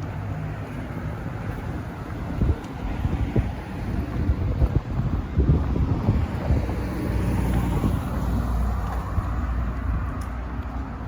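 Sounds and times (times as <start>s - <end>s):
street traffic noise: 0.0s - 11.0s
wind buffeting microphone: 0.0s - 11.0s.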